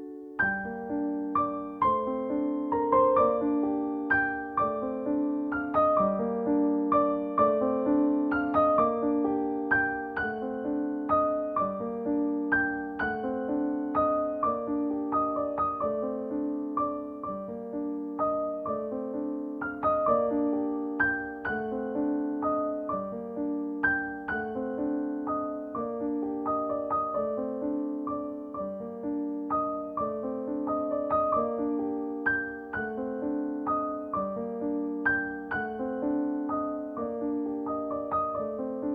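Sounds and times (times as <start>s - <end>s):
repeated piano notes: 0.0s - 38.9s.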